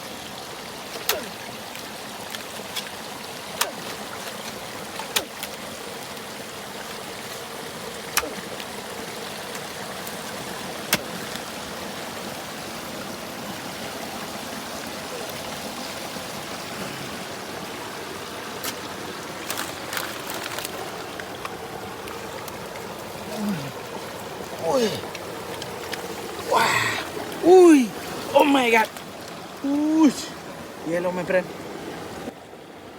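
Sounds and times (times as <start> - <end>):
shallow river water running: 0.0 - 32.9.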